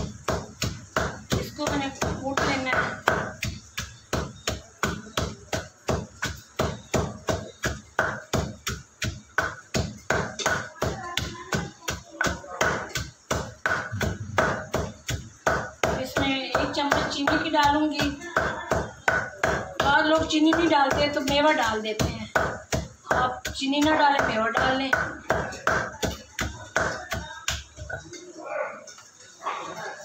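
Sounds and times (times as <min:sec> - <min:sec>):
pestle pounding in mortar: 0:00.0 - 0:28.2.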